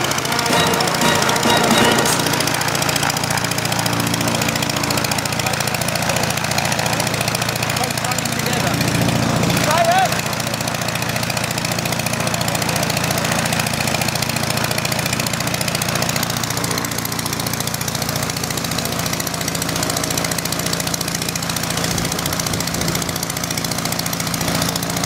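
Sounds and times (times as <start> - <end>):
piston engines running: 0.0 - 25.0.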